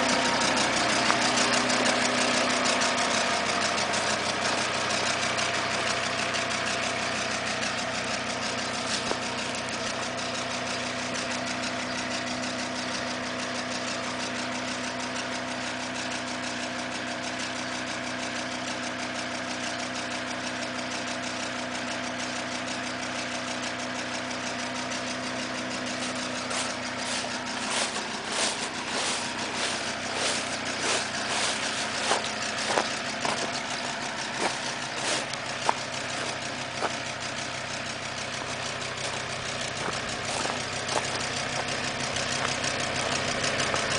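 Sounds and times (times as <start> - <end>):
sharp engine clicks: 0.0 - 16.9, 24.2 - 43.9
diesel engine idling: 0.0 - 43.9
engine ticking: 0.0 - 43.9.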